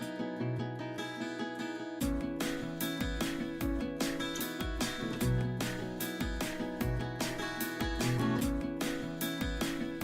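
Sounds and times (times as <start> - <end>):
upbeat music with drums and guitar: 2.0 - 10.0.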